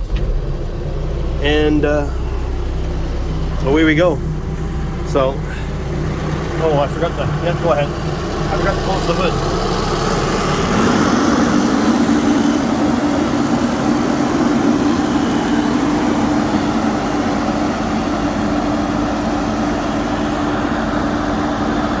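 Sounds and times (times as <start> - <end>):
diesel backhoe engine droning: 0.0 - 22.0.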